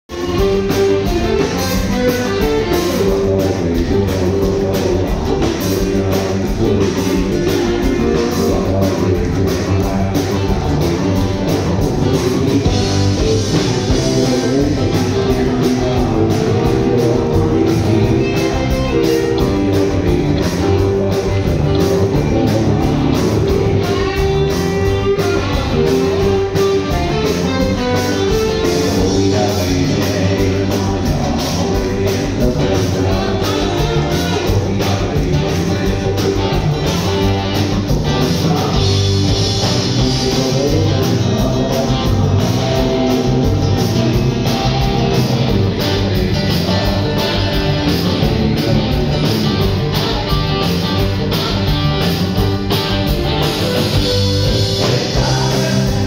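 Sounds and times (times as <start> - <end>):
bass guitar: 0.0 - 56.0
guitars: 0.0 - 56.0
drum kit beat: 0.1 - 56.0.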